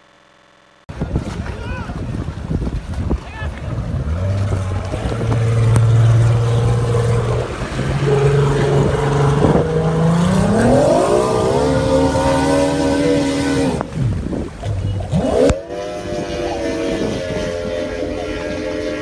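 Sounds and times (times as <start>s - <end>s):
outboard boat engine revving: 0.0s - 19.0s.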